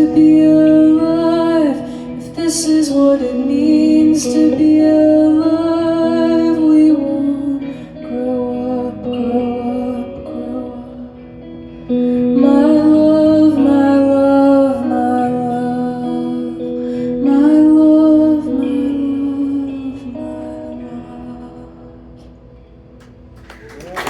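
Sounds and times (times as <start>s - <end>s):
guitar sustained chords: 0.0s - 23.6s.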